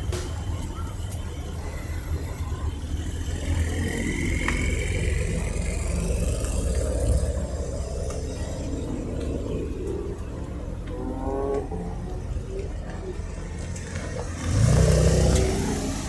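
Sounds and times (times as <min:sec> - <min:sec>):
car engine deep rumble: 0:00.0 - 0:16.0.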